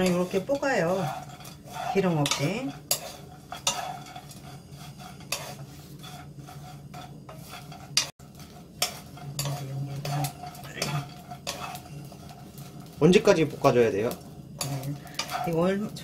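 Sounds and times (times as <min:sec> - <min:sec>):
dried fish rustling in pan: 0:00.0 - 0:16.0
spatulas scraping frying pan: 0:00.0 - 0:16.0
steady low hum: 0:00.0 - 0:16.0.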